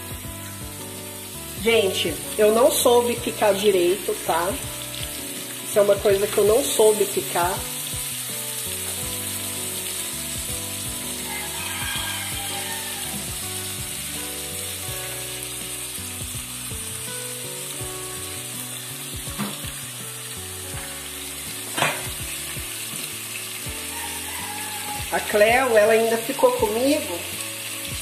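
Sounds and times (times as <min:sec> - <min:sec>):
vegetables sizzling in a pot: 0:00.0 - 0:28.0.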